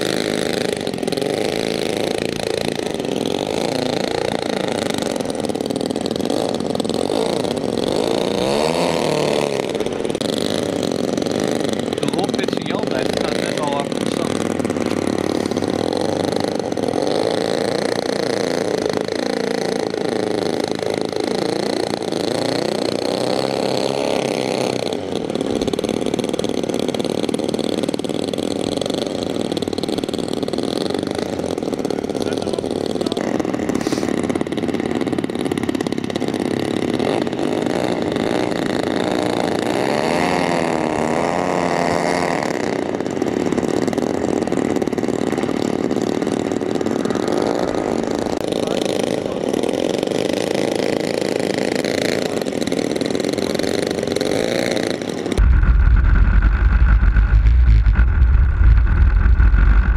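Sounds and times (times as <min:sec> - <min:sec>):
twin propeller engines running: 0:00.0 - 0:59.9.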